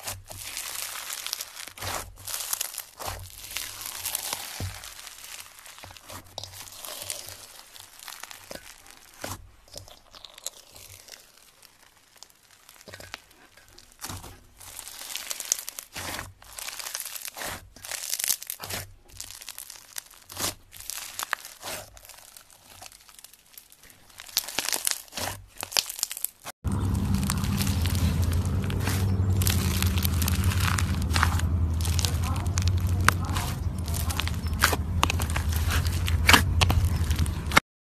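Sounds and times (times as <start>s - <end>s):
slime crunching and crackling: 0.0s - 37.6s.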